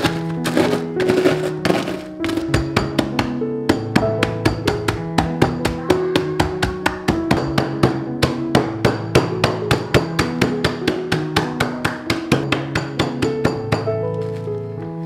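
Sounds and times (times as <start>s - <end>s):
pestle pounding biscuits in plastic bag: 0.0s - 14.4s
background music: 0.0s - 15.0s.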